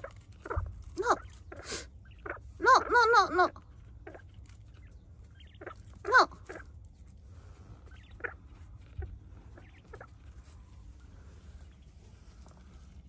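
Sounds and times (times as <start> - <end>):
quail chirping: 0.0 - 12.9.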